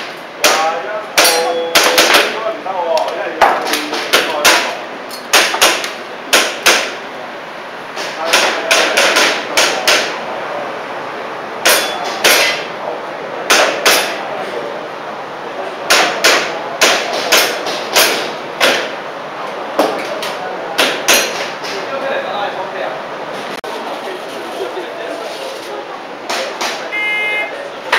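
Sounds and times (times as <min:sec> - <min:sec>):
voices: 0:00.4 - 0:05.2, 0:07.0 - 0:27.9.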